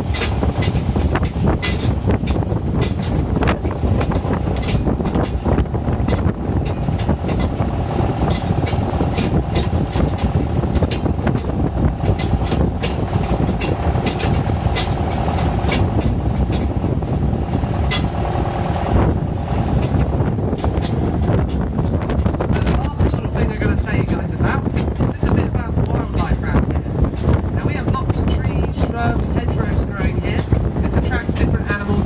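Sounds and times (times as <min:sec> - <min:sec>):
tractor engine running: 0:00.0 - 0:32.0
trailer rattling and knocking: 0:00.0 - 0:32.0.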